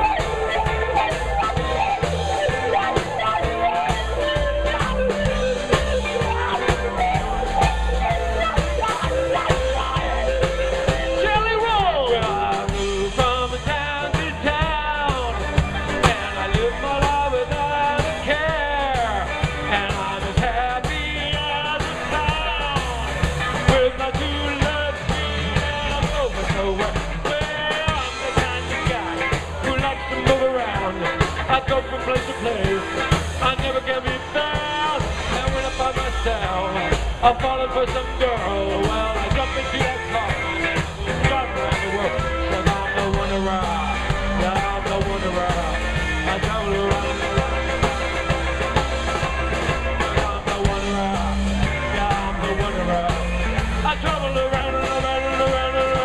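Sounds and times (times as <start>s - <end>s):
drums and bass beat: 0.0s - 56.0s
lead instrument melody: 0.0s - 56.0s.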